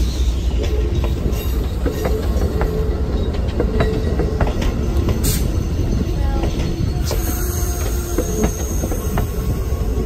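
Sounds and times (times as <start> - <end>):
train rumbling on rails: 0.0 - 10.0
wheels clicking over rail joints: 0.4 - 10.0.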